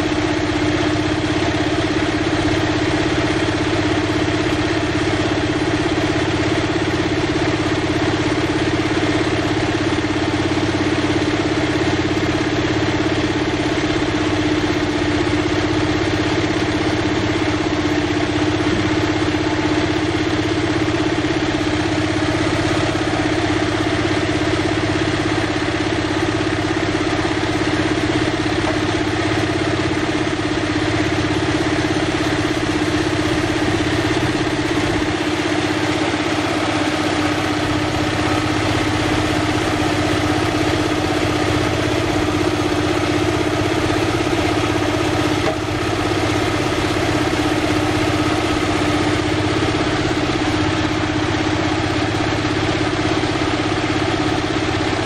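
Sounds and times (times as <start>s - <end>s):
small diesel engine running: 0.0s - 55.0s.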